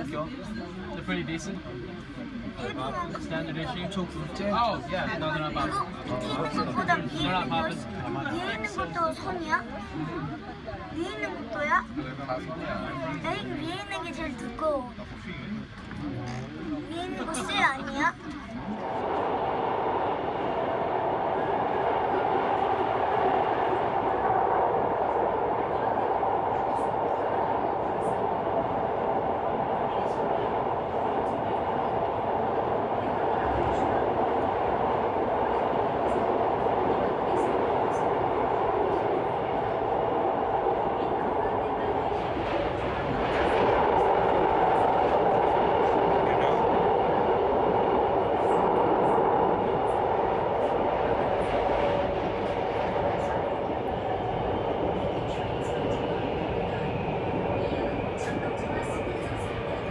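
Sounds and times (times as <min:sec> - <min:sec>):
cable car cabin rumble and hum: 0:00.0 - 0:59.9.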